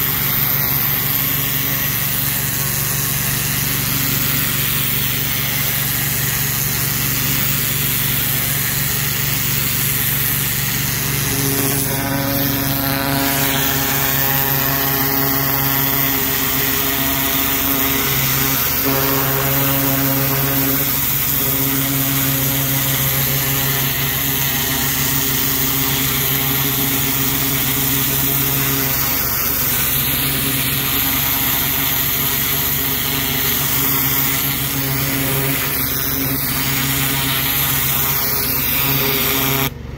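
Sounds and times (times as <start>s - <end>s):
high-pressure water spraying on brick: 0.0s - 39.7s
pressure washer engine running: 0.0s - 39.9s.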